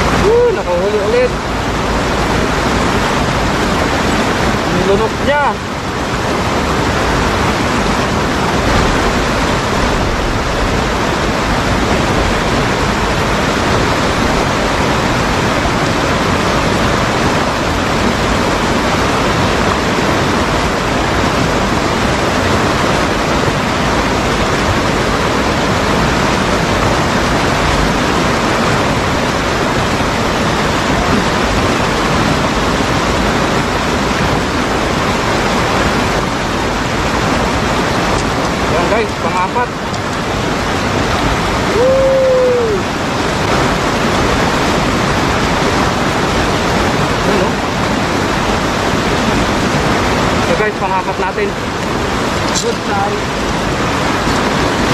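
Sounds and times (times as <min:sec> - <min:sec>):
river water rushing over rocks: 0:00.0 - 0:54.9.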